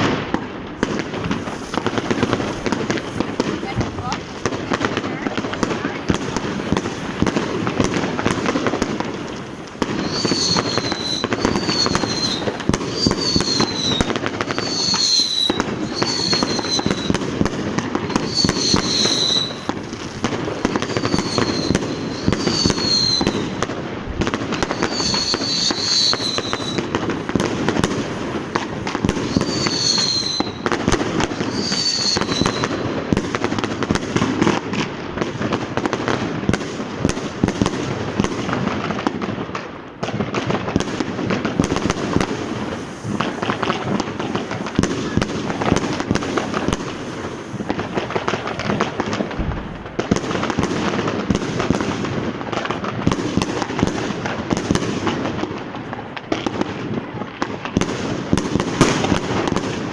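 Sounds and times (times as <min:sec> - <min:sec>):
falling firework whistle: 0:00.0 - 0:39.1, 0:40.1 - 0:59.9
firecrackers crackling and popping: 0:00.0 - 0:59.9
firework bangs: 0:00.0 - 0:59.9.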